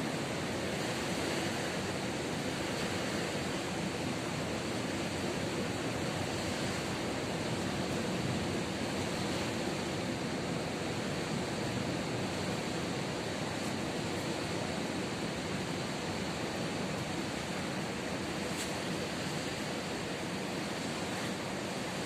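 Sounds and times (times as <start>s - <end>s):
ocean surf washing on beach: 0.0s - 22.0s.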